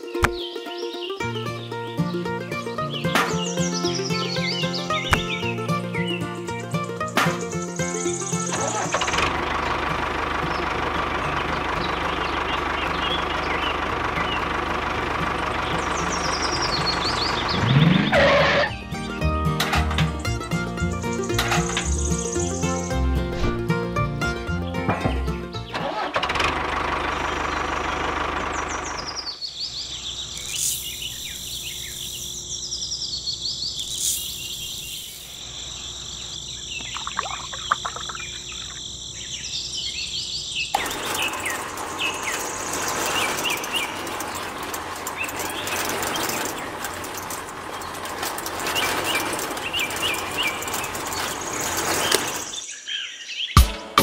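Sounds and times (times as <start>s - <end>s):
birds chirping: 0.0s - 25.9s, 27.0s - 53.7s.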